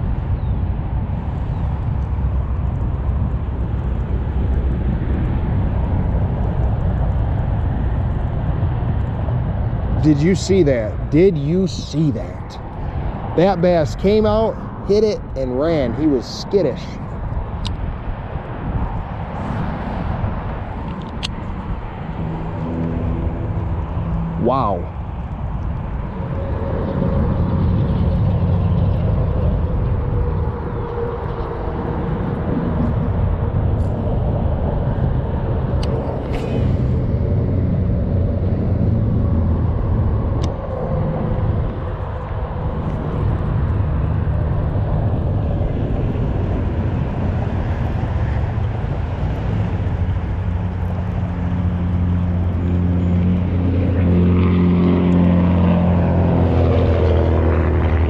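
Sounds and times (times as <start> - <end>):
engine drone: 0.0 - 58.0.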